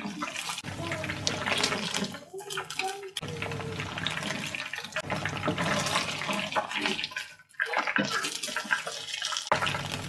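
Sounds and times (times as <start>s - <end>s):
chicken deep-frying in oil: 0.0s - 10.0s.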